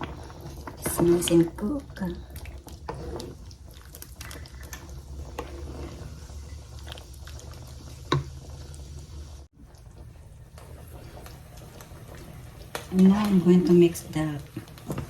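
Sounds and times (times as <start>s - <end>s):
chili bubbling in a pot: 0.0s - 15.0s.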